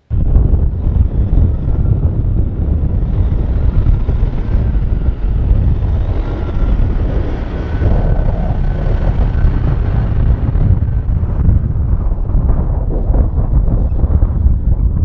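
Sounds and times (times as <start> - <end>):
diesel engine deep rumble: 0.0 - 15.0.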